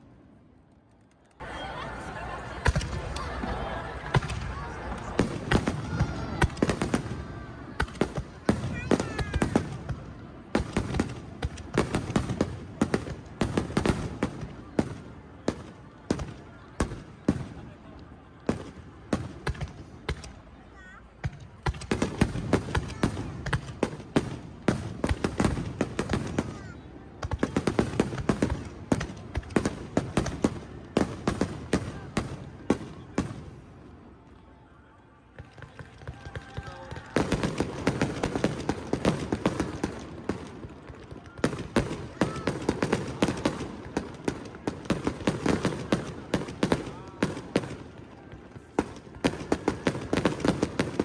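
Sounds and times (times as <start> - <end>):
fireworks cracks and bangs: 1.4 - 20.4, 21.2 - 33.6, 35.3 - 51.0.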